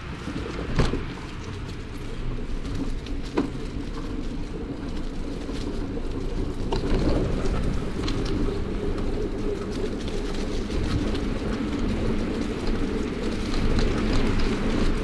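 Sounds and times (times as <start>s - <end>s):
bicycle clicks and knocks: 0.0s - 15.0s
wind rumbling over microphone: 0.0s - 15.0s.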